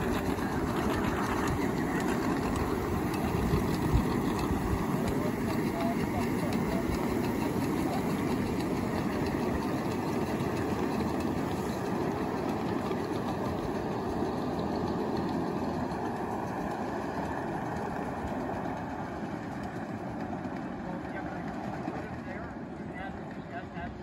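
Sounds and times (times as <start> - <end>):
miniature train rumbling on track: 0.0 - 24.0.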